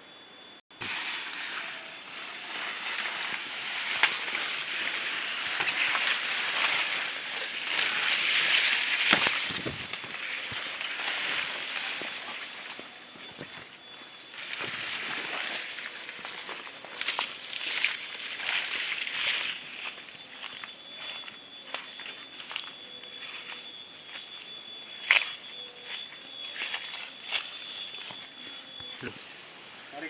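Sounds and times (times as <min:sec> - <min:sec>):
rustling undergrowth with snaps: 0:00.8 - 0:29.0.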